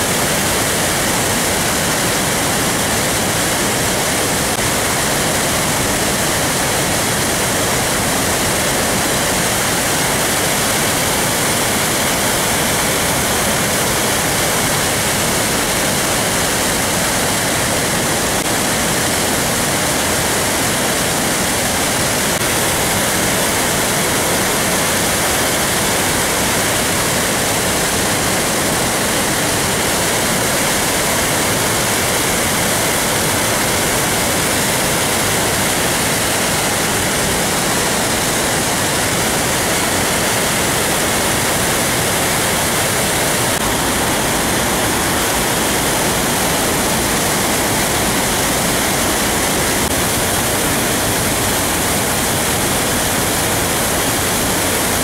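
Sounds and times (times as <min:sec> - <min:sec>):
water rushing through dam spillway: 0:00.0 - 0:55.0.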